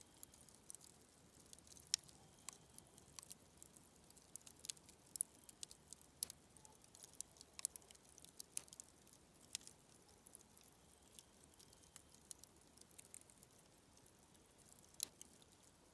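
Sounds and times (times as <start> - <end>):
campfire crackling: 0.0 - 15.9.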